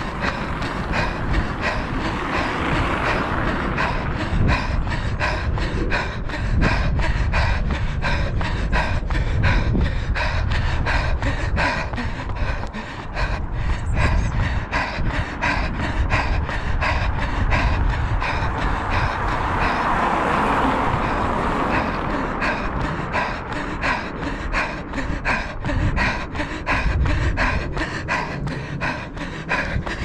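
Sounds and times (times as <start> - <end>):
heavy panting: 0.0 - 30.0
wind rumbling on microphone: 0.0 - 30.0.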